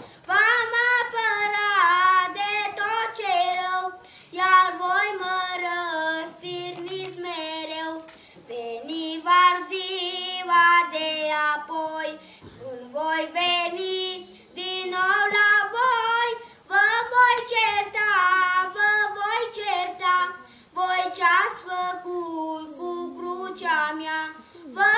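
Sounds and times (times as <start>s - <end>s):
boy singing solo: 0.0s - 24.9s.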